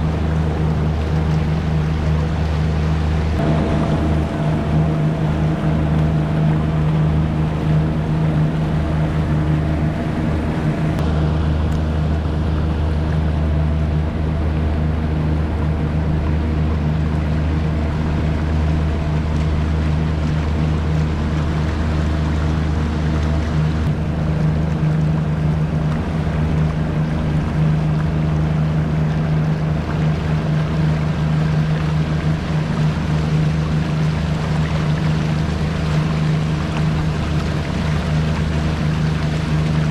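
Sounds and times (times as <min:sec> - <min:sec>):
outboard motor droning: 0:00.0 - 0:39.9
water rushing past hull: 0:00.0 - 0:39.9.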